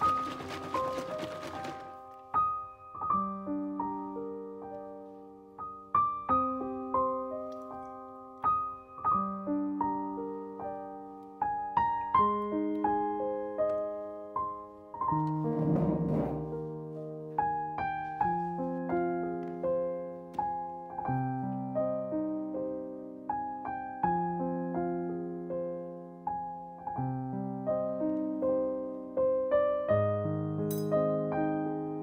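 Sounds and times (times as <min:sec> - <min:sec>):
gentle solo piano melody: 0:00.0 - 0:32.0.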